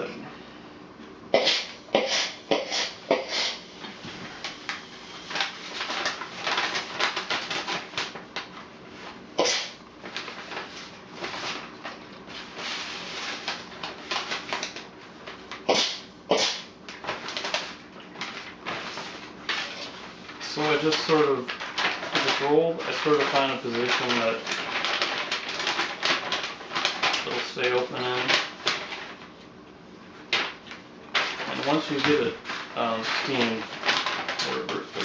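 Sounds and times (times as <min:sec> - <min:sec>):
stiff paper crackling: 0:04.3 - 0:29.5, 0:30.2 - 0:35.0.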